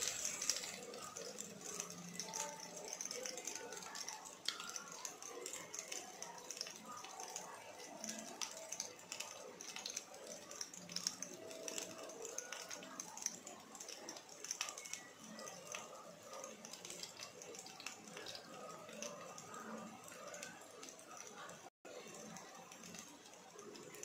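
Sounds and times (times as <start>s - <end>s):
egg mixture sizzling in pan: 0.0s - 24.0s.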